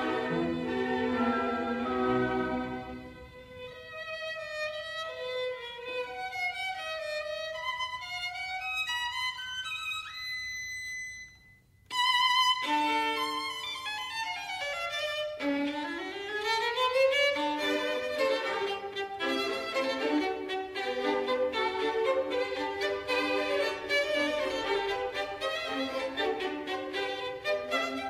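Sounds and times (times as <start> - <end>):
quick violin melody: 0.0 - 11.2, 11.9 - 28.0.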